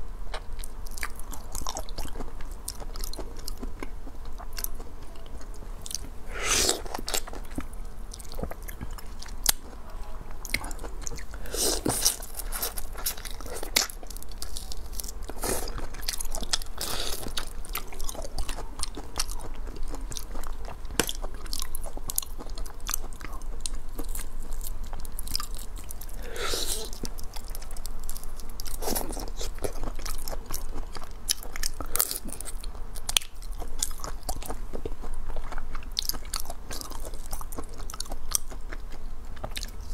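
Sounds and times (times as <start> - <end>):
chewing and crunching shrimp: 0.3 - 39.9.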